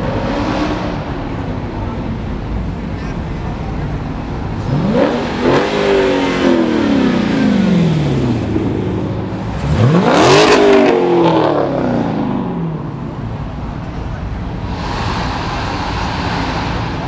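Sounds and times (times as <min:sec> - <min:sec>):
cars accelerating past: 0:00.0 - 0:02.3, 0:04.4 - 0:13.6, 0:14.4 - 0:17.0.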